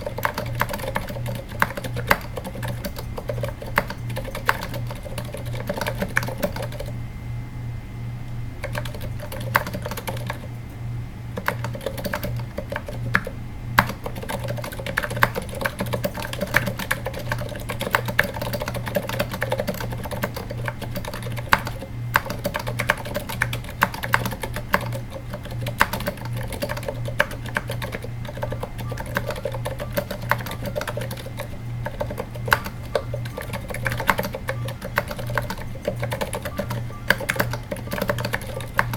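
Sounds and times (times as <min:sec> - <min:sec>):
quiet damped keyboard clicks: 0:00.0 - 0:07.0, 0:08.3 - 0:10.8, 0:11.4 - 0:38.9
steady low hum: 0:00.0 - 0:38.9.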